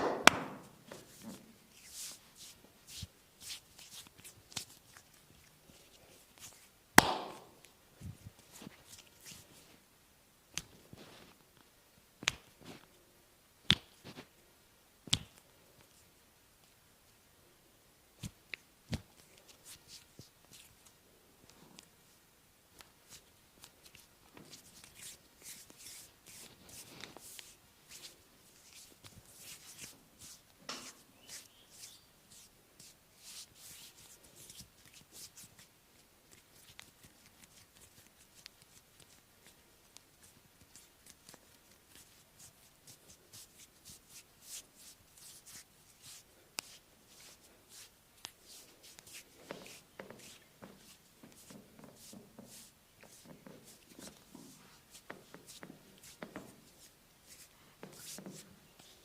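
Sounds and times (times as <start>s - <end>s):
hands brushing on skin: 0.6s - 9.8s, 18.2s - 21.9s, 22.8s - 59.0s.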